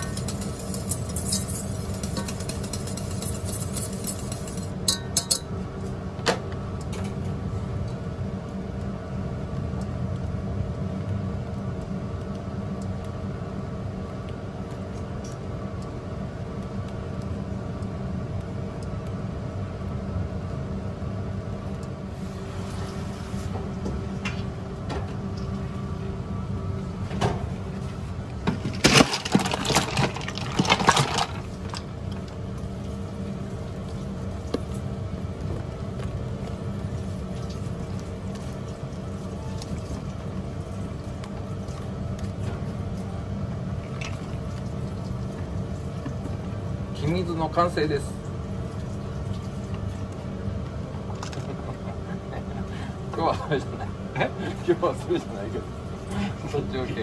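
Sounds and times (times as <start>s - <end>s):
kitchen equipment hum: 0.0s - 57.0s.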